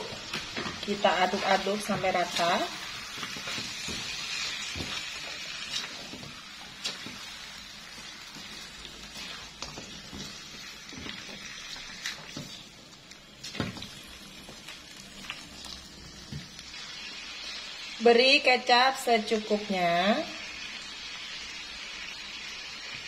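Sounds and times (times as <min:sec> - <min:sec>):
fish sizzling in a wok: 0:00.0 - 0:23.0.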